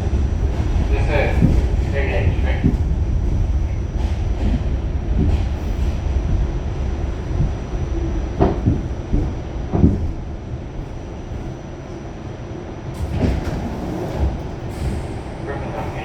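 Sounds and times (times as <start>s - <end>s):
subway car wheels rumbling on track: 0.0s - 16.0s.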